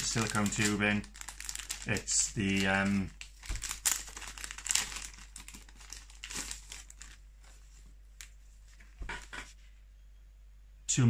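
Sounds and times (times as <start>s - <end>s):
plastic bag crinkling and rustling: 0.0s - 9.6s.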